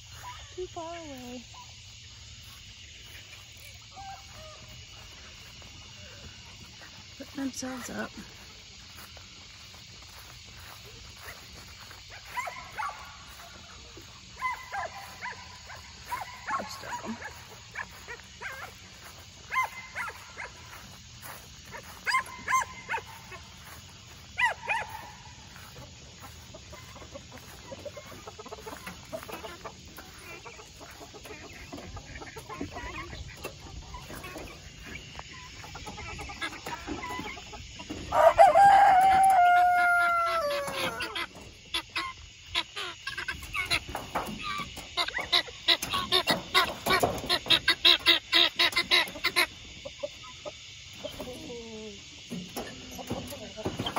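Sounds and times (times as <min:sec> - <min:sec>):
chickens and guinea fowl calling: 0:00.0 - 0:53.9.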